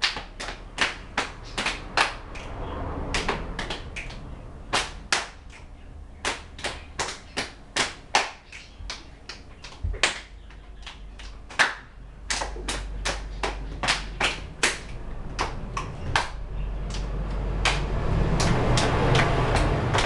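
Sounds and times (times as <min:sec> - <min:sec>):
noisy background: 0:00.0 - 0:20.0
rhythmic hand claps and slaps: 0:00.0 - 0:20.0.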